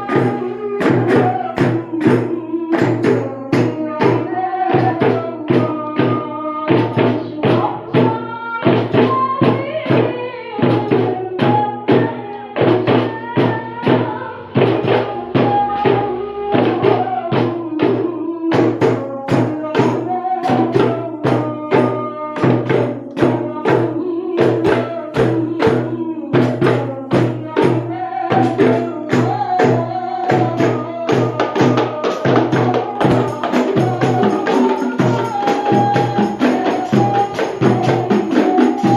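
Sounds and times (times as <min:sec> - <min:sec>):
frame drum and tambourine rhythm: 0:00.0 - 0:38.9
woman singing: 0:00.0 - 0:38.9.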